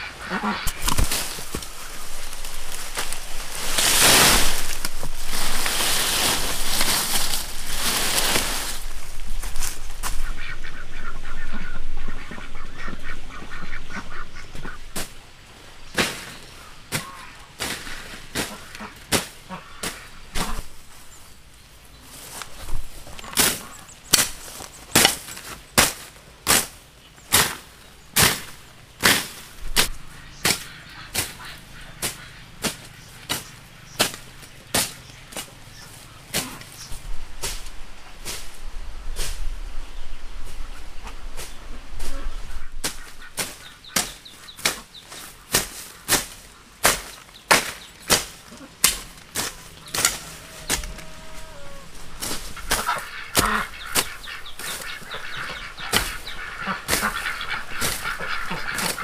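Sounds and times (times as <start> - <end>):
ducks quacking: 0.0 - 8.9, 9.6 - 15.1, 15.9 - 21.1, 22.6 - 25.3, 27.3 - 37.0, 40.5 - 59.0.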